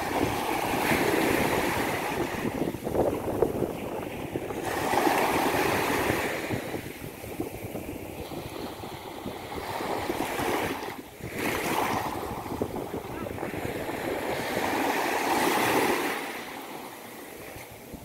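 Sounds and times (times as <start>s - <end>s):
sea waves breaking on beach: 0.0s - 18.0s.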